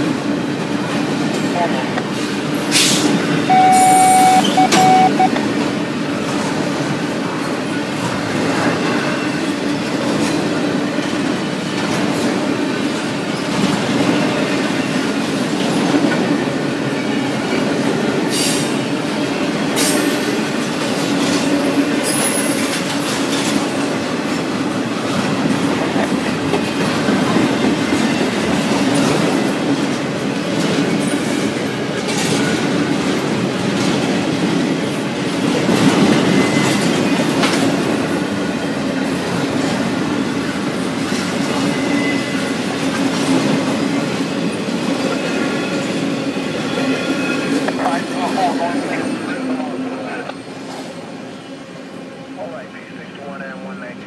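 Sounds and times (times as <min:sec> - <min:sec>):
steel wheels rumbling on rail: 0:00.0 - 0:03.5, 0:05.4 - 0:52.4.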